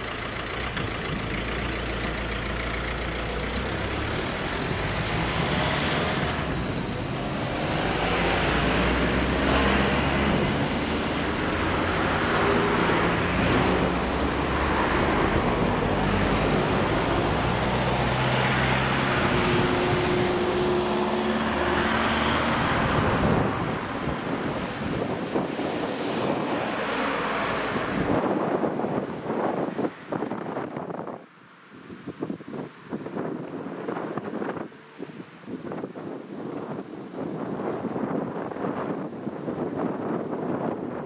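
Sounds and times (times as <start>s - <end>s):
cars driving past: 0.0s - 35.9s.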